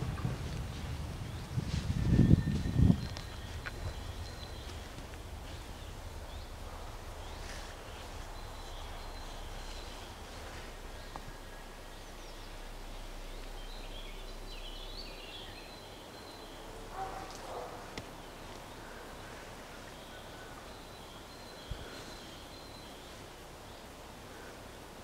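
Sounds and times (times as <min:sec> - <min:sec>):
faint bird chirps: 0:01.2 - 0:24.6.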